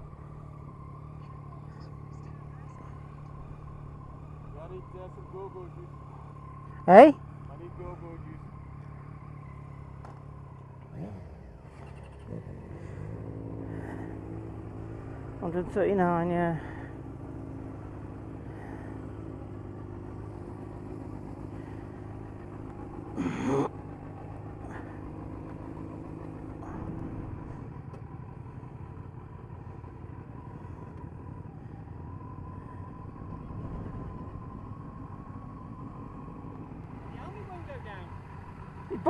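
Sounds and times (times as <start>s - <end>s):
vehicle engines rumbling: 0.0s - 39.0s.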